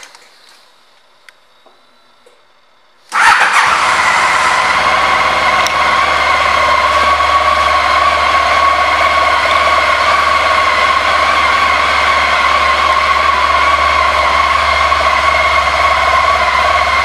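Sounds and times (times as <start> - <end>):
steady whining tone: 1.0 - 17.0
motorcycle engine starting and idling: 3.1 - 17.0.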